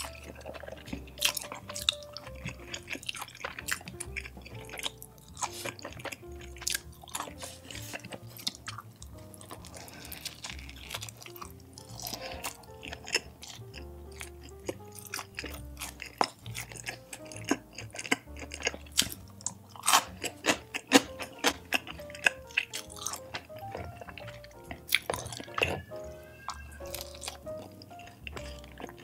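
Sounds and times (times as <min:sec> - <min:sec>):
chewing food clicks: 0:00.0 - 0:25.9
background music with bass: 0:00.0 - 0:29.0.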